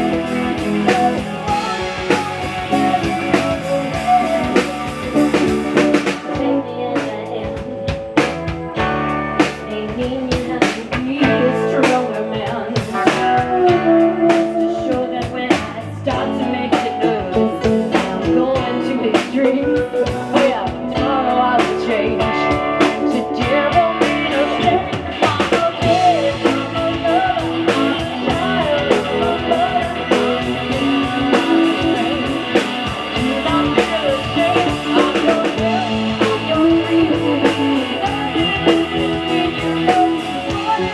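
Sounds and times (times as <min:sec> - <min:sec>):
drum kit: 0:00.0 - 0:40.9
guitar: 0:00.0 - 0:40.9
person singing: 0:00.0 - 0:40.9.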